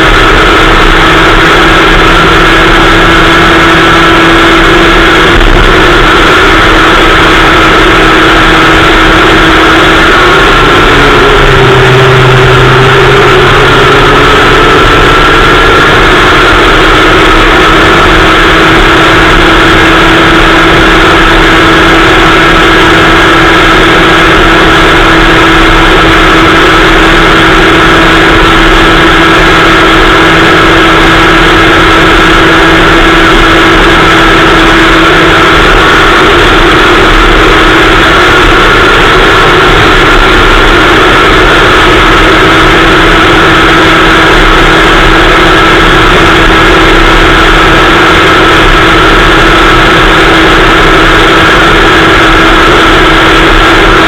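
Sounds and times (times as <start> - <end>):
two-stroke kart engine running: 0.0 - 54.0.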